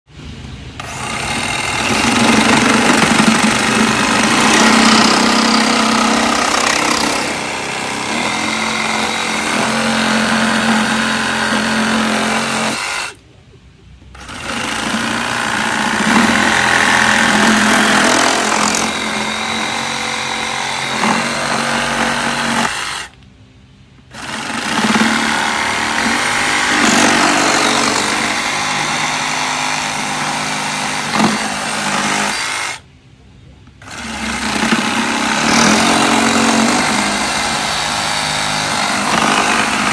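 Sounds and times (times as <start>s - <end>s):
reciprocating saw cutting wood: 0.8s - 13.2s, 14.2s - 23.2s, 24.1s - 32.9s, 33.8s - 39.9s.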